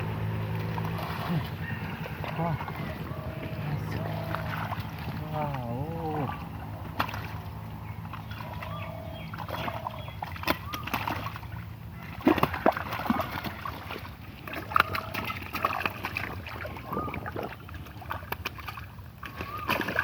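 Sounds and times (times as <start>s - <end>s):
hands splashing in muddy water: 0.0s - 20.0s.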